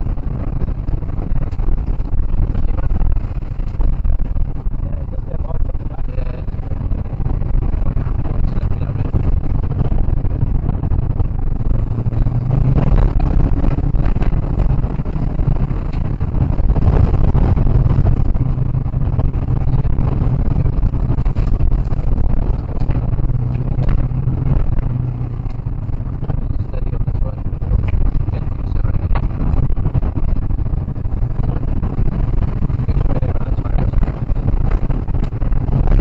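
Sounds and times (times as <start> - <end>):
loud car engine drone: 0.0 - 36.0
tyres rumbling on gravel: 0.0 - 36.0.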